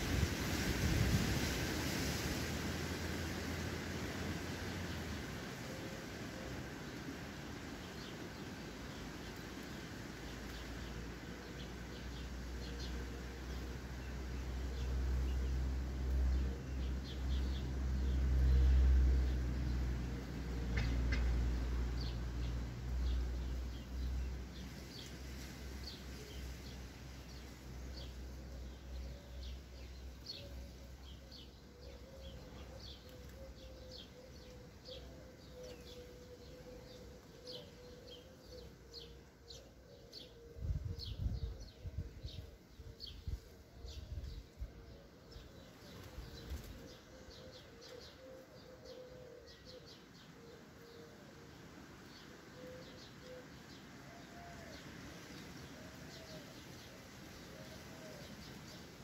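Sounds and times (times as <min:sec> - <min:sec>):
sparrows chirping: 0:07.6 - 0:59.0.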